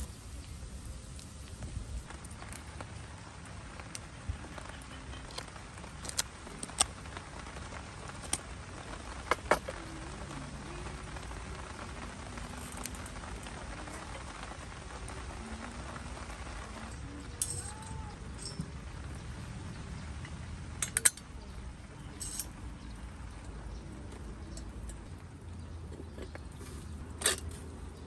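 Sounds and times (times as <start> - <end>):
sharp cracks of fire: 0.0 - 23.5
small wood fire crackling: 0.0 - 28.0.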